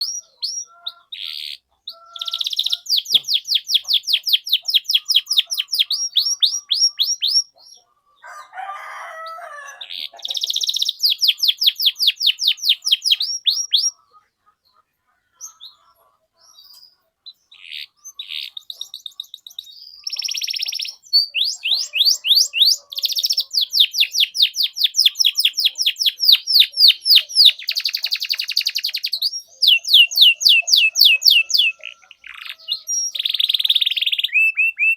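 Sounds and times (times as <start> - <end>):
canary chirping: 0.0 - 8.4, 9.2 - 34.9.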